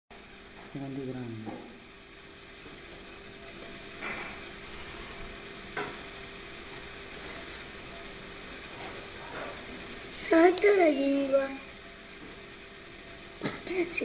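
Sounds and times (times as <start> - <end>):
faint steady hum: 0.1 - 14.0
background hiss: 0.2 - 14.0.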